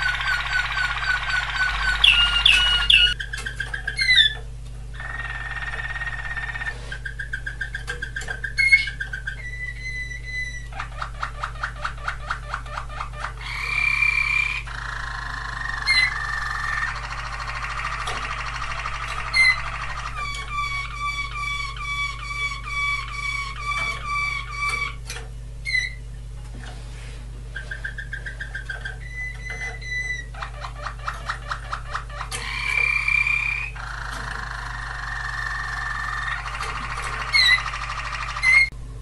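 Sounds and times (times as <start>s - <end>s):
canary singing: 0.0s - 26.2s, 27.5s - 38.8s.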